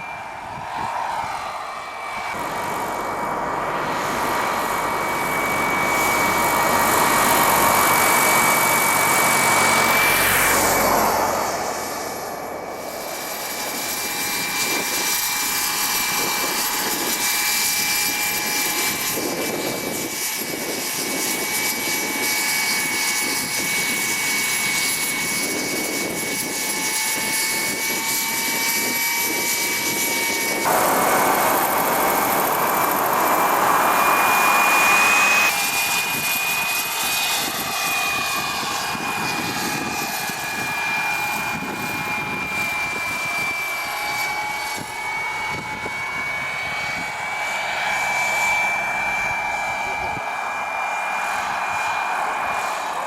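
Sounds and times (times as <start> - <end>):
gas turbine whine: 0.0 - 53.0
helicopter rotor noise: 0.0 - 53.0.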